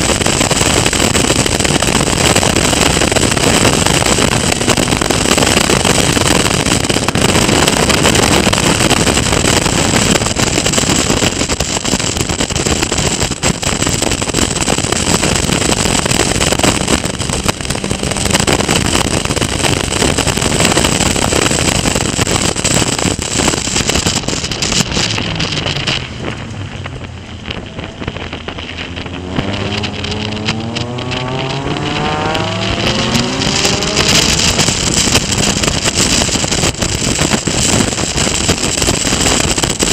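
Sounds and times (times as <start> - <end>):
race car engine drone: 0.0 - 39.8
wind rush on microphone: 0.0 - 39.9.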